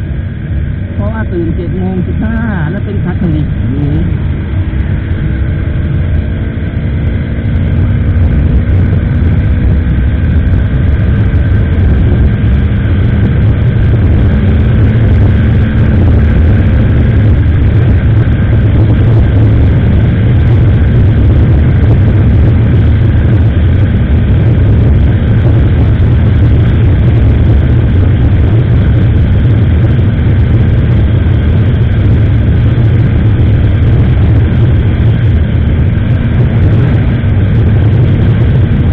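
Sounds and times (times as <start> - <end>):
motorcycle engine accelerating: 0.0 - 38.9
wind rush on microphone: 0.0 - 38.9.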